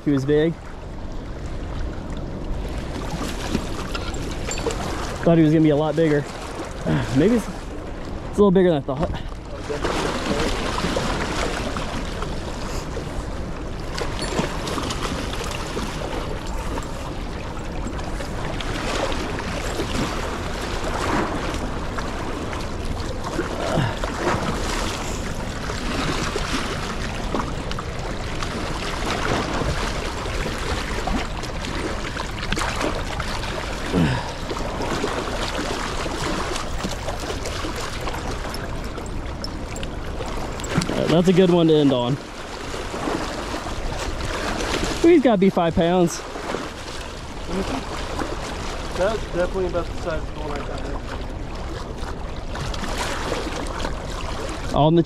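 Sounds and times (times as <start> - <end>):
water rushing below dam: 0.0 - 55.0.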